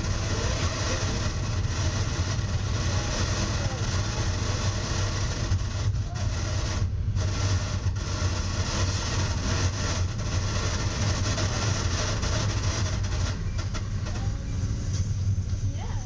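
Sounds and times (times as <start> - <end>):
train running noise from cab: 0.0 - 16.0.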